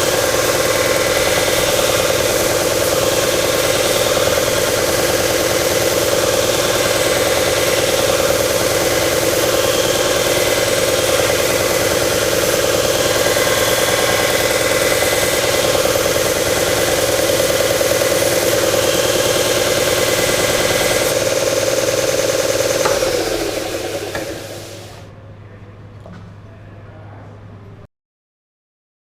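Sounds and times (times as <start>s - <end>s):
belt sander grinding wood: 0.0s - 25.1s.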